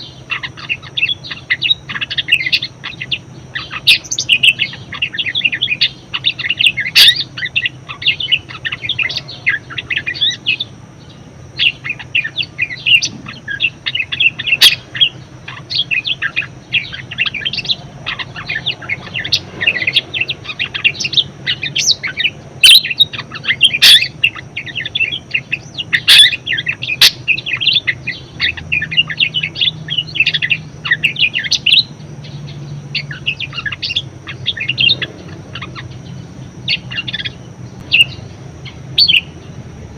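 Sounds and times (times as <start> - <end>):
budgerigar warbling: 0.0 - 32.0, 33.0 - 39.4
sharp loud chirps: 0.0 - 39.6.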